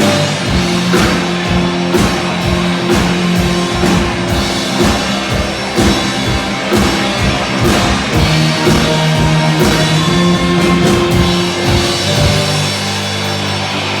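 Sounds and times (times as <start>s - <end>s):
drum kit beat: 0.0s - 14.0s
guitar chords: 0.0s - 14.0s.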